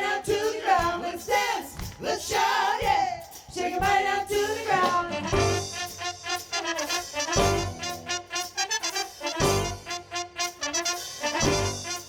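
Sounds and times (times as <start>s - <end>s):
soul-funk band with singers: 0.0s - 12.0s
steady drum beat: 0.0s - 12.0s.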